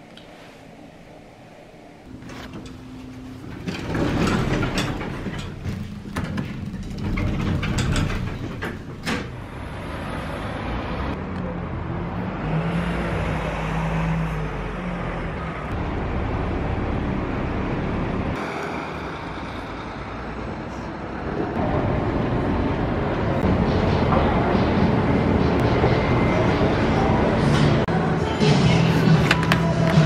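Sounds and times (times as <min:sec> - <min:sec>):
bus engine running: 0:02.1 - 0:30.0
street traffic: 0:04.8 - 0:30.0.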